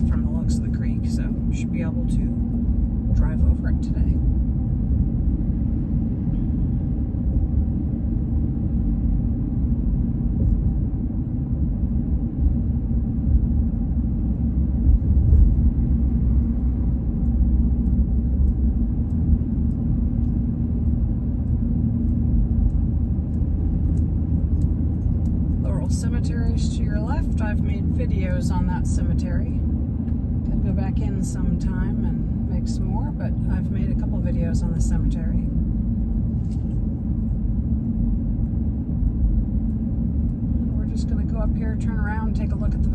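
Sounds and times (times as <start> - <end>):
car driving rumble: 0.0 - 42.9.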